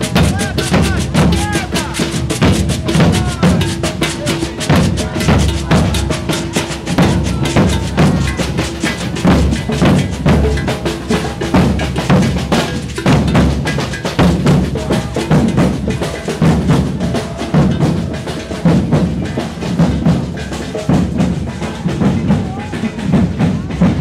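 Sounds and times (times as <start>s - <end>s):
deep bass drum beats: 0.0s - 24.0s
percussion group drumming: 0.0s - 24.0s
sharp quick drum strokes: 0.0s - 24.0s.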